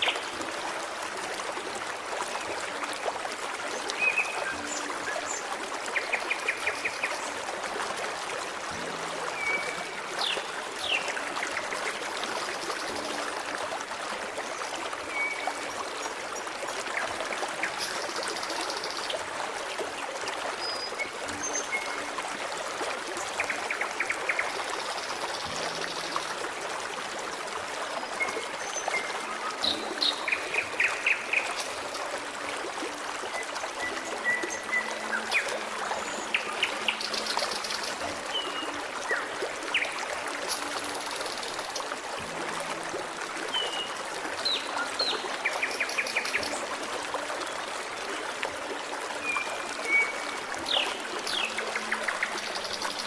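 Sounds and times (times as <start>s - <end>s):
stream trickling and babbling: 0.0s - 53.0s.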